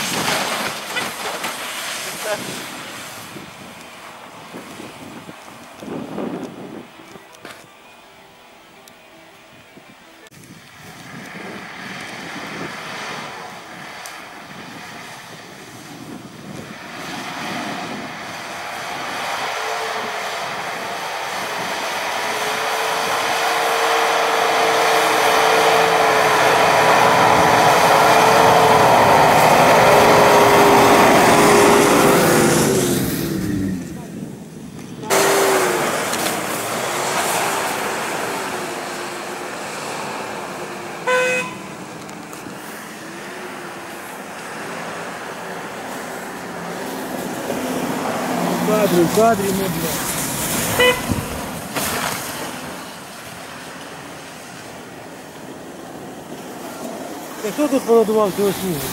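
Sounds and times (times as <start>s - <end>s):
suv engine driving past: 11.1s - 58.9s.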